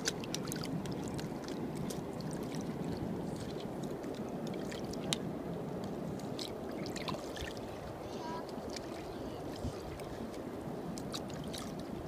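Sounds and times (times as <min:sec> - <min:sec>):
seawater washing over rocks: 0:00.0 - 0:12.0.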